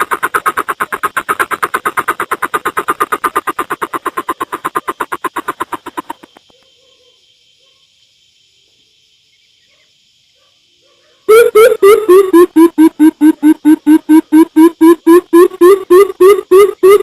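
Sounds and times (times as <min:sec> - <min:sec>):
faint steady hiss: 0:00.0 - 0:16.3.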